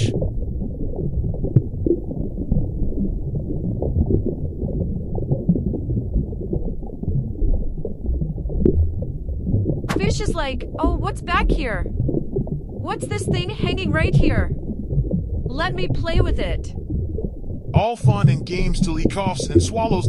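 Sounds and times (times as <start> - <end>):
faint underwater crackling: 0.0 - 20.0
muffled underwater rumble: 0.0 - 20.0.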